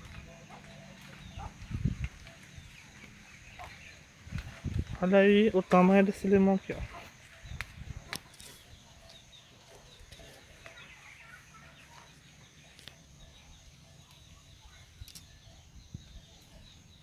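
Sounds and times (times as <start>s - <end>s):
faint chickens clucking: 0.0s - 5.0s, 5.6s - 16.7s.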